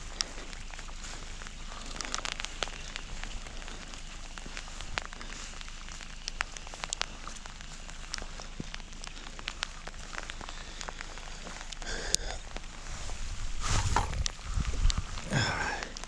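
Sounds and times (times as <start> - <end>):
jacket rustle: 0.0 - 16.0
rain on a jacket: 0.0 - 16.0.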